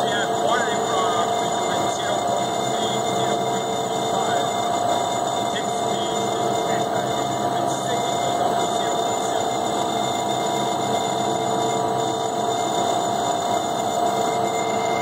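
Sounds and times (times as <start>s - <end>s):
mixer whining and humming: 0.0s - 15.0s.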